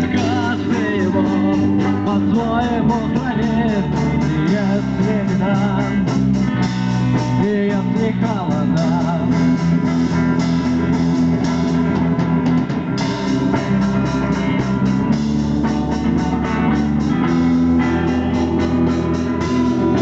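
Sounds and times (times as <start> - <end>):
bass guitar: 0.0 - 20.0
drum kit beat: 0.0 - 20.0
electric guitar: 0.0 - 20.0.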